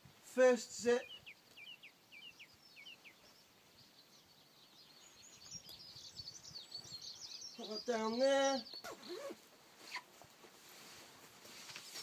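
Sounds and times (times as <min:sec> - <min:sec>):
faint birdsong: 0:00.0 - 0:10.7.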